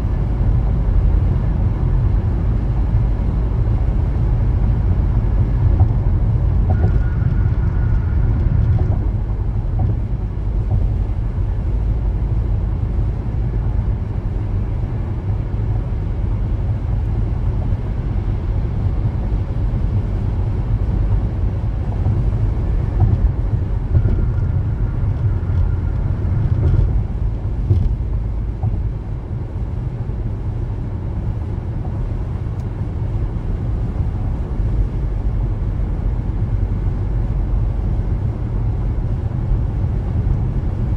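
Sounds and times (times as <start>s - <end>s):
car road rumble: 0.0s - 40.9s.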